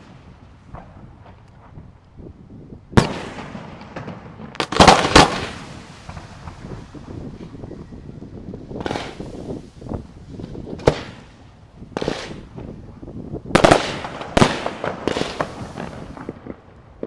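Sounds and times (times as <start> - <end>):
fireworks bursting with bangs: 3.0 - 17.0.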